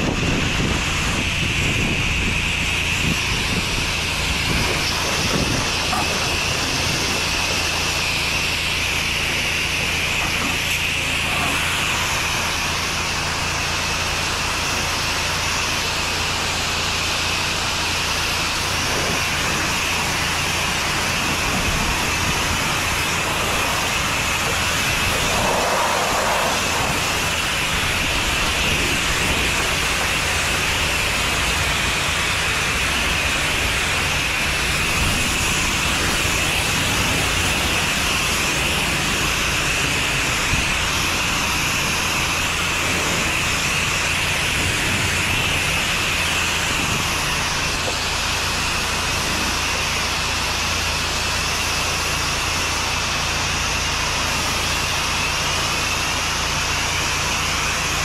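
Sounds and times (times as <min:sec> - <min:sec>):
pressure washer water jet hissing: 0:00.0 - 0:58.0.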